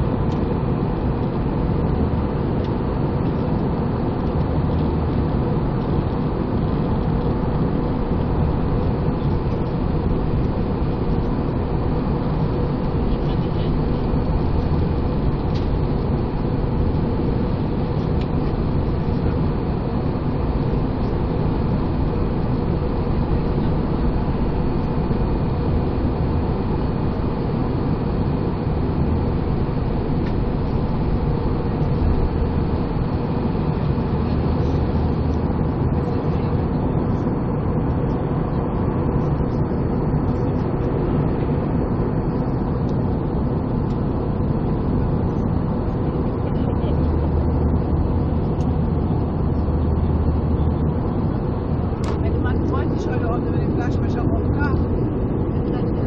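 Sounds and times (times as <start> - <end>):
faint steady tones: 0.0 - 56.0
jet engine drone and rushing air: 0.0 - 56.0.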